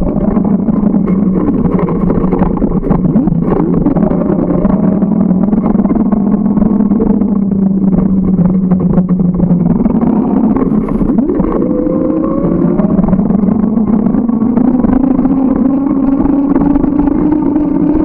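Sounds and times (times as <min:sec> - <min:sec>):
bicycle road noise: 0:00.0 - 0:18.0.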